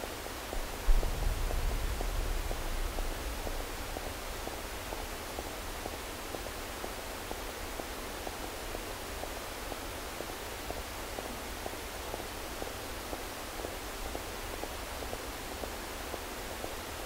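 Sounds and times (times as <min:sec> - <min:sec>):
steady electronic hiss: 0:00.0 - 0:17.0.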